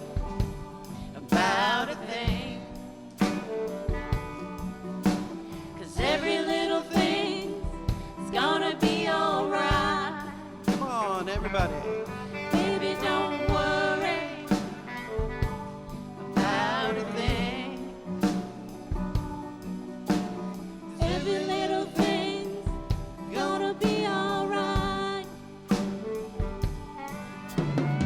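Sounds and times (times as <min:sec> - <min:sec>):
wordless sung vocals: 0:00.0 - 0:27.0
live reggae band: 0:00.0 - 0:28.0.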